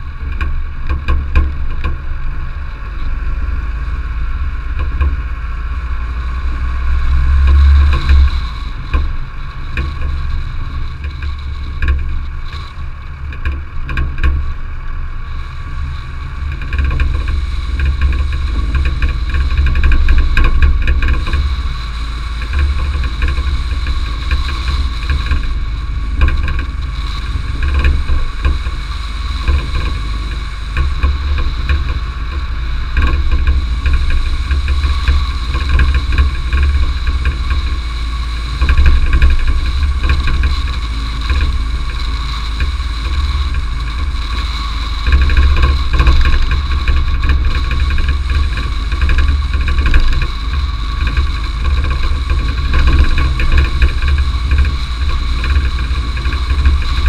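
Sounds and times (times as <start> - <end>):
car engine running: 0.0 - 57.0
gravel clicking under tyres: 0.0 - 57.0
wind and road rumble: 0.0 - 57.0.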